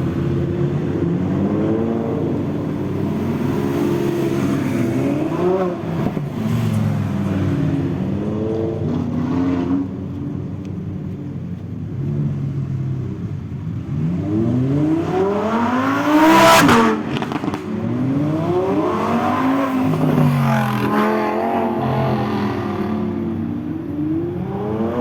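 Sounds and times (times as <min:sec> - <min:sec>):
sports cars accelerating past: 0:00.0 - 0:10.5, 0:13.9 - 0:25.0.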